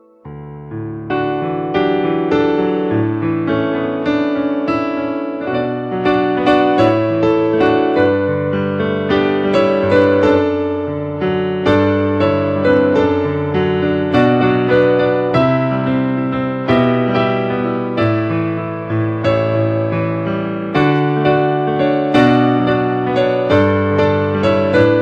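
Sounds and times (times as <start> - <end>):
gentle piano piece: 0.0 - 25.0.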